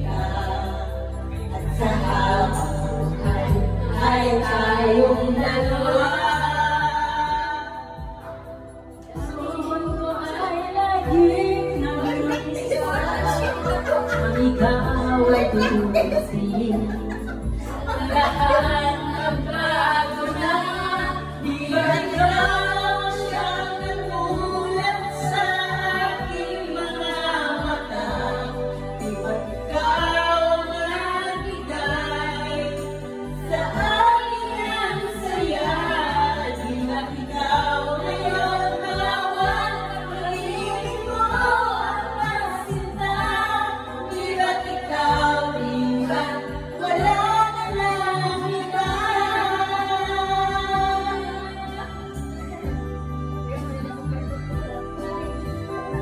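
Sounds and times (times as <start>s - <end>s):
karaoke backing track: 0.0s - 56.0s
women singing into microphones: 0.0s - 56.0s.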